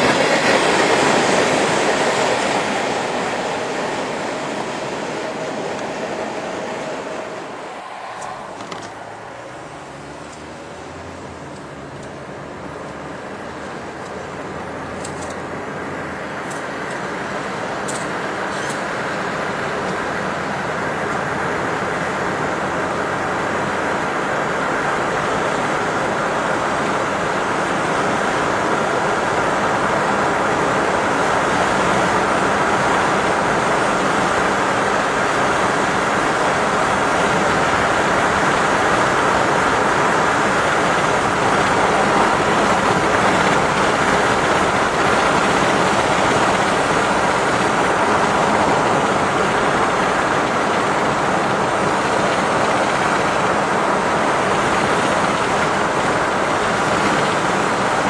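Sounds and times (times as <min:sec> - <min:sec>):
road and wind noise in car: 0:00.0 - 0:58.0.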